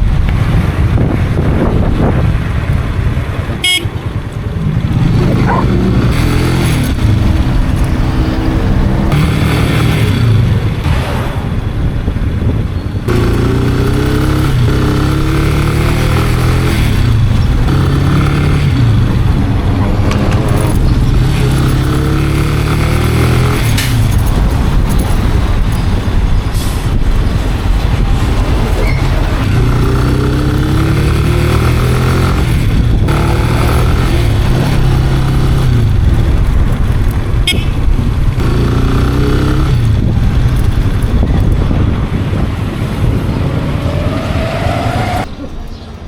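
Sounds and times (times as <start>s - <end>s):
wind noise on microphone: 0.0s - 46.0s
motorcycle engine revving: 0.4s - 45.3s.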